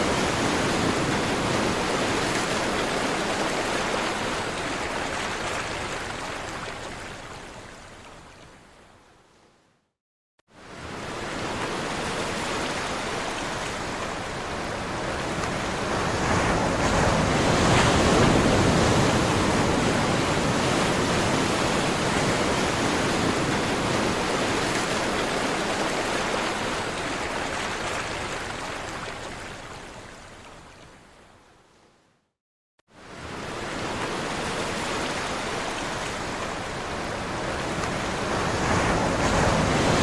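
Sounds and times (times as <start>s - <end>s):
sea waves washing on shore: 0.0s - 8.2s, 10.6s - 31.0s, 33.0s - 40.0s.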